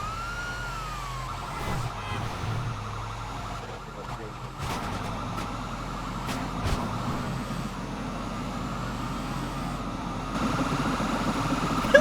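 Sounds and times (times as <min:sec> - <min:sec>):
road noise: 0:00.0 - 0:12.0
truck engine running: 0:00.0 - 0:12.0.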